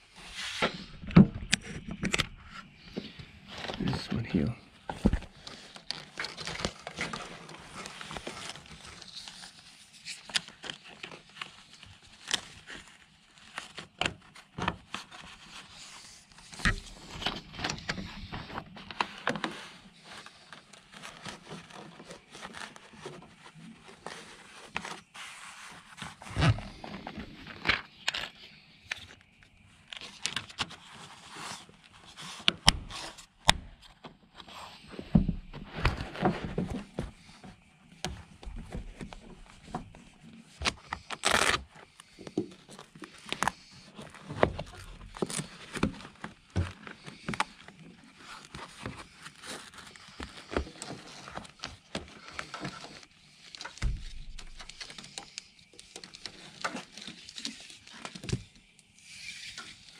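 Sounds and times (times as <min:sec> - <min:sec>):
cable rustling and scraping: 0:00.0 - 0:59.9.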